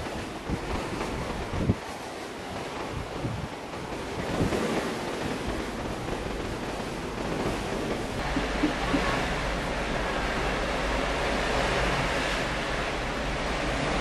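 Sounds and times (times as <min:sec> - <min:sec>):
waves rushing along ship hull: 0:00.0 - 0:14.0
wind buffeting microphone: 0:00.0 - 0:14.0.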